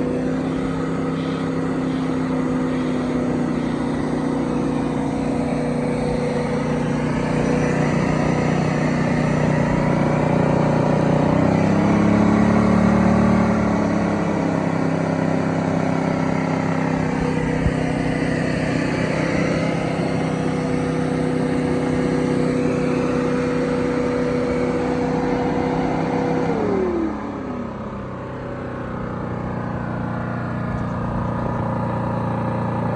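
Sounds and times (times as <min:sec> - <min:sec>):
generator running: 0:00.0 - 0:32.9.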